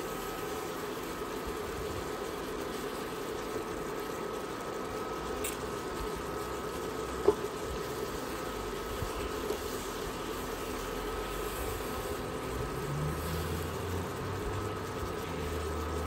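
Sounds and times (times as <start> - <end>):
induction cooktop hum: 0.0 - 16.0
sauce bubbling and sizzling: 0.0 - 16.0.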